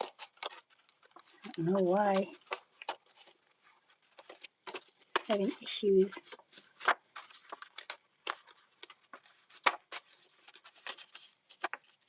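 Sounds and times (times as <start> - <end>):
paper and card rustling: 0.0 - 12.0.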